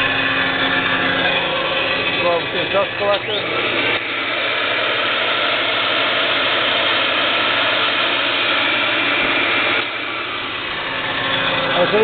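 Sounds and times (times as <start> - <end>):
dust collector fan: 0.0 - 12.0
sander motor running: 0.0 - 12.0.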